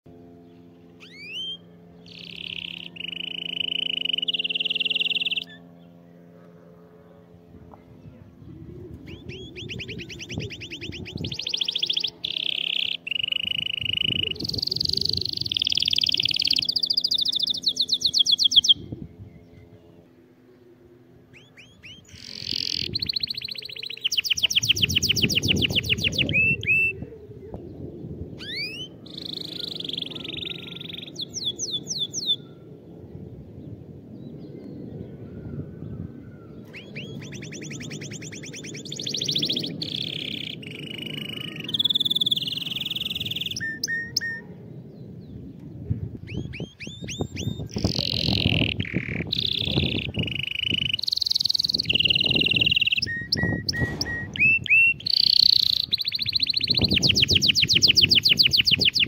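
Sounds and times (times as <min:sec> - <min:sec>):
steady low hum: 0:00.1 - 0:59.0
canary singing trills: 0:00.2 - 0:20.3, 0:21.3 - 0:27.1, 0:28.4 - 0:32.7, 0:36.5 - 0:44.5, 0:46.2 - 0:59.0.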